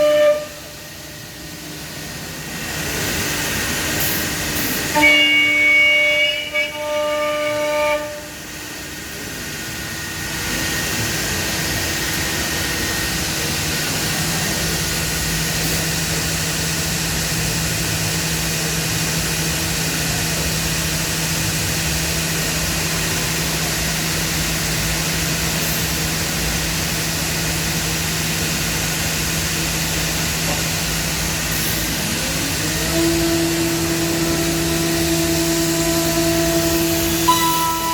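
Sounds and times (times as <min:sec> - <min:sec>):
machine whine: 0:00.0 - 0:37.9
machining centre humming and hissing: 0:00.0 - 0:37.9.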